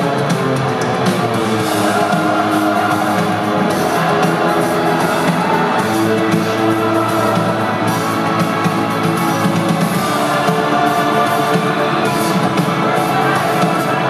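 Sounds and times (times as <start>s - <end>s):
drums with cymbals: 0.0s - 14.0s
electric guitar: 0.0s - 14.0s.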